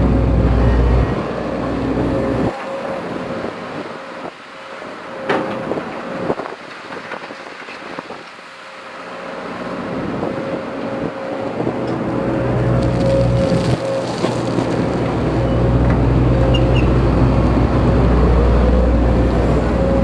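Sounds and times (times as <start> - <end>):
excavator diesel engine with whine: 0.0 - 20.0.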